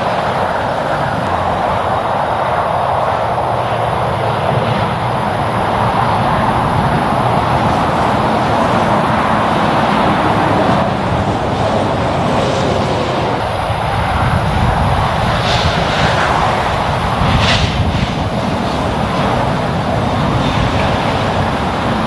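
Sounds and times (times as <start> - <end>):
highway traffic passing: 0.0 - 22.0.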